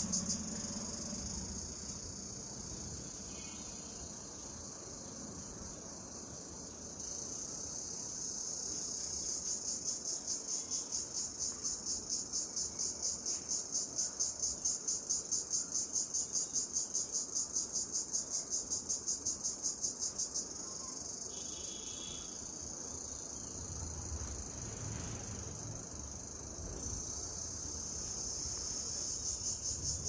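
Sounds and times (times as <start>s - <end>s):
high-pitched insect call: 0.0s - 30.0s
steady insect buzz: 0.0s - 30.0s.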